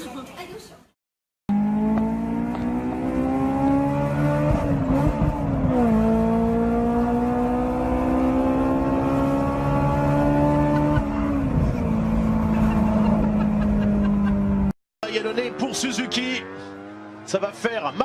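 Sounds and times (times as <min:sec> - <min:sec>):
racing engine at high revs: 0:01.5 - 0:18.0.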